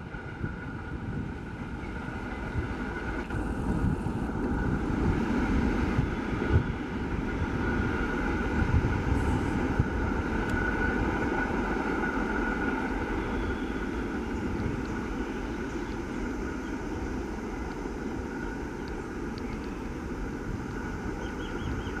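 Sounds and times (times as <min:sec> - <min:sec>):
freight train rumbling: 0:00.0 - 0:22.0.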